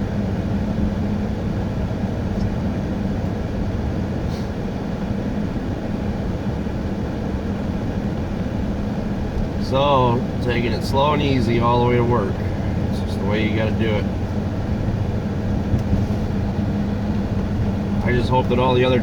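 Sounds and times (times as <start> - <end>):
engine hum: 0.0 - 19.0
tyre and road noise: 0.0 - 19.0.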